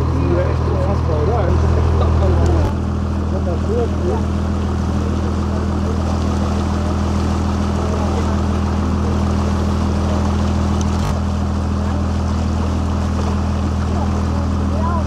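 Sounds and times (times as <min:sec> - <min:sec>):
boat engine droning: 0:00.0 - 0:15.0
water rushing along hull: 0:00.0 - 0:15.0.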